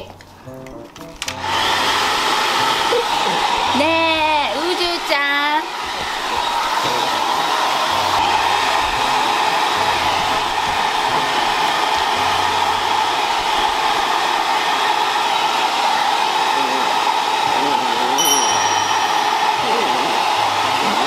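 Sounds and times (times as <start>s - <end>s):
hair dryer running: 1.2s - 21.0s.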